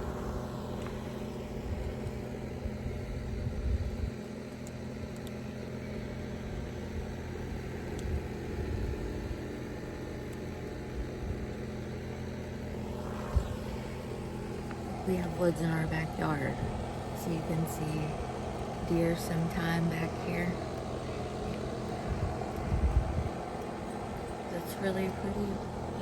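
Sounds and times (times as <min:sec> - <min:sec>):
low outdoor hum and rumble: 0:00.0 - 0:26.0.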